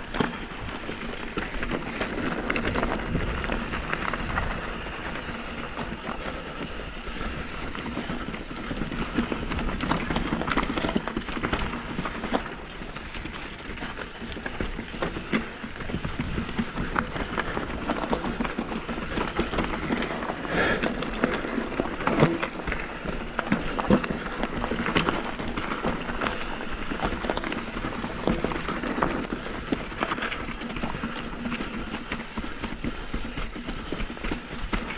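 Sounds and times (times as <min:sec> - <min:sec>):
bike clicks and knocks: 0:00.0 - 0:34.9
bike tyres crunching over dirt: 0:00.0 - 0:34.9.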